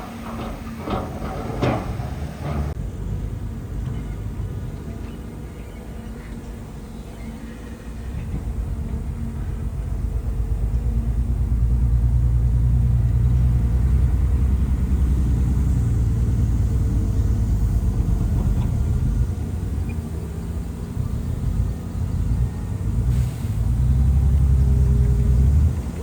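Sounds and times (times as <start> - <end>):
bulldozer diesel engine rumbling: 0.0 - 26.0.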